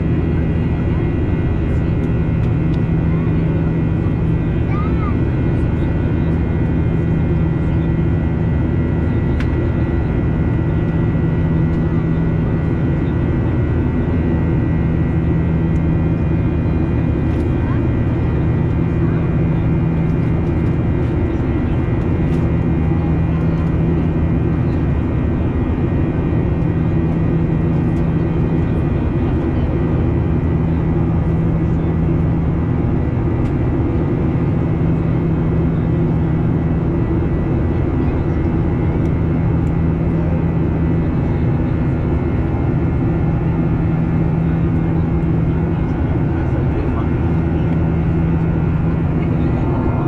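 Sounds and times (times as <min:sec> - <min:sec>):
jet engines drone in cabin: 0:00.0 - 0:50.0.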